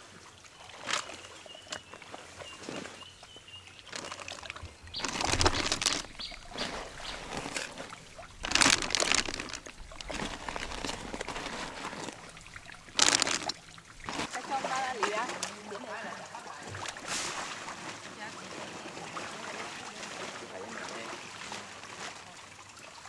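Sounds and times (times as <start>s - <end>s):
water sloshing and trickling: 0.0s - 23.0s
fish splashing in bucket: 3.7s - 22.5s.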